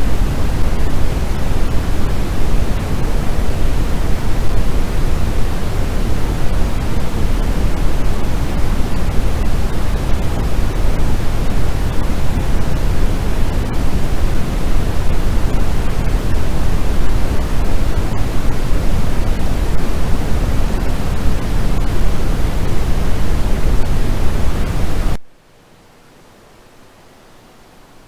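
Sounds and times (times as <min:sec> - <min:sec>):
faint hiss: 0:00.0 - 0:28.0
loud white noise hiss: 0:00.0 - 0:28.0.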